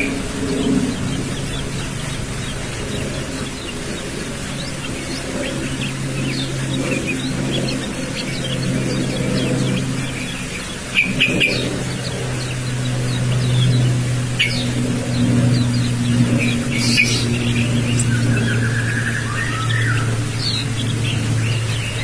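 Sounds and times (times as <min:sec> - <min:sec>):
steady low hum: 0:00.0 - 0:22.0
young bird chirping: 0:00.0 - 0:22.0.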